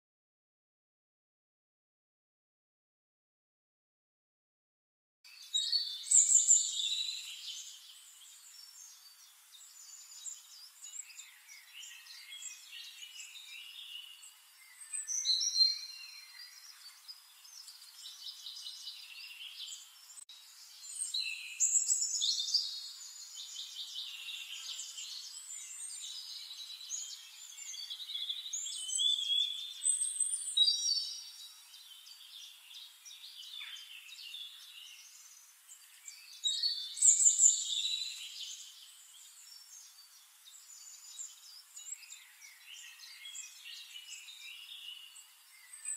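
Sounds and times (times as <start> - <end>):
songbirds chirping and trilling: 5.3 - 45.9.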